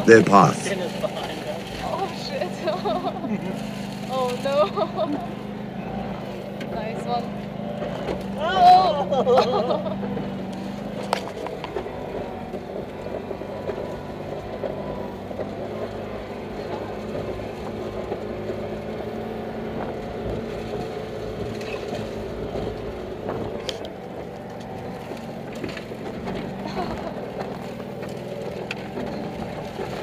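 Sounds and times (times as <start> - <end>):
car engine running: 0.0 - 30.0
knocks and rattles from bumpy ride: 1.0 - 30.0.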